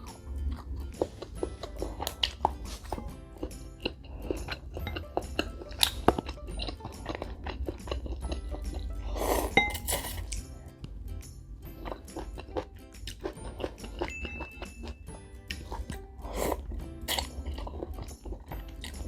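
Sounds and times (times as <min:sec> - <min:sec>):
background music: 0:00.0 - 0:19.0
person chewing crunchy food: 0:00.0 - 0:19.0.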